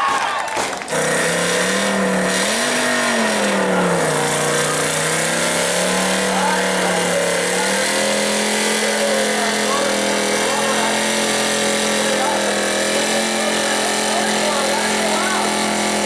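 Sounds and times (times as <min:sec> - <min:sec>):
truck engine revving hard: 0:00.7 - 0:16.0.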